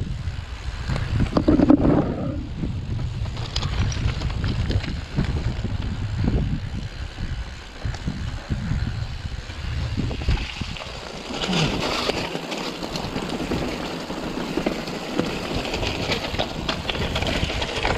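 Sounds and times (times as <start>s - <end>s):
bike rattling and clicking: 0.0s - 17.9s
wind buffeting microphone: 0.0s - 17.9s
bike tyres crunching over stones: 0.1s - 17.9s.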